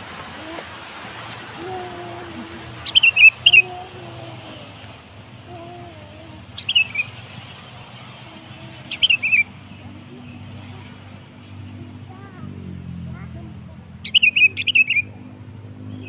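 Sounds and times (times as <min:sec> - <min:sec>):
bird chattering calls: 0:00.0 - 0:12.5, 0:13.1 - 0:15.2.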